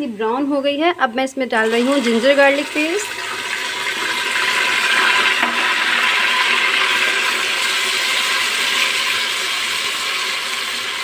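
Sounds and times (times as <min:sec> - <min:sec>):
paste sizzling in hot oil: 0:01.6 - 0:11.0.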